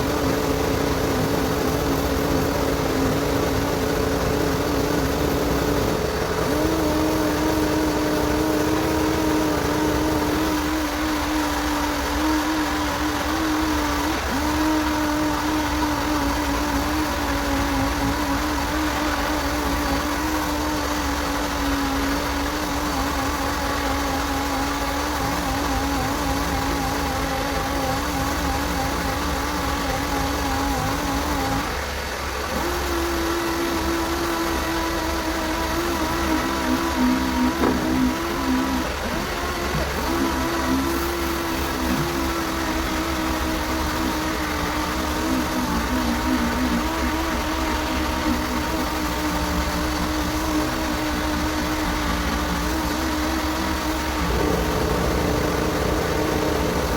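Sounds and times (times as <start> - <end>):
motor humming: 0.0 - 56.9.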